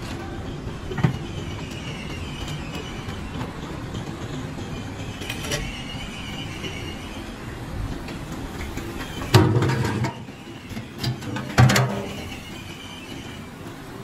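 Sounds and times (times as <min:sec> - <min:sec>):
wheelbarrow rolling rumble: 0:00.0 - 0:14.0
wheelbarrow wheel squeaking: 0:00.0 - 0:14.0.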